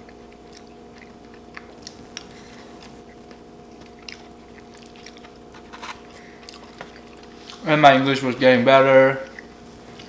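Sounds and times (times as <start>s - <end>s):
chewing food: 0.0s - 7.7s, 9.0s - 10.0s.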